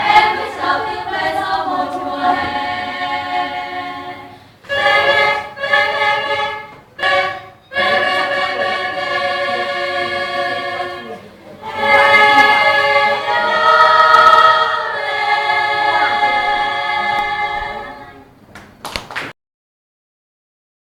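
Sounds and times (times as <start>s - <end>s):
choir singing held chords: 0.0s - 18.4s.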